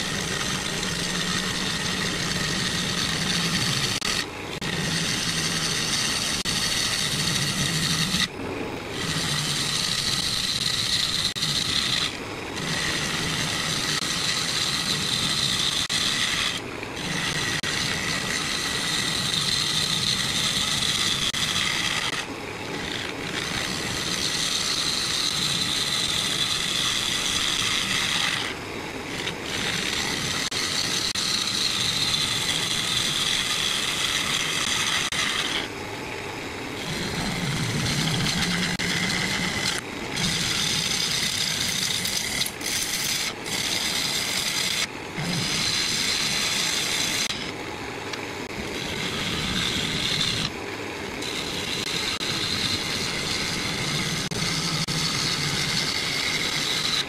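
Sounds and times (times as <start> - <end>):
gouge scraping wood on a lathe: 0.0 - 35.8, 36.8 - 47.6, 48.4 - 50.6, 51.2 - 57.0.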